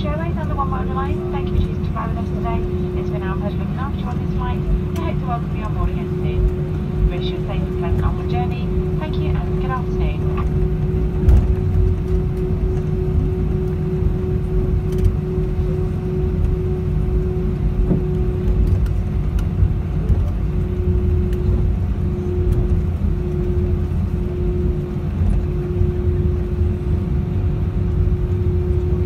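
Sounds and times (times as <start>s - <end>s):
aircraft cabin low rumble: 0.0s - 29.0s
constant hum: 0.0s - 29.0s.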